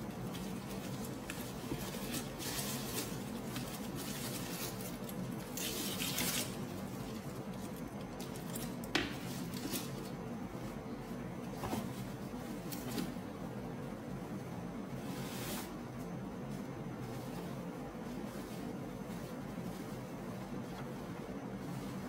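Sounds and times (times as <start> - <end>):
dust bag rustling and crinkling: 0.0 - 13.2, 14.9 - 22.0.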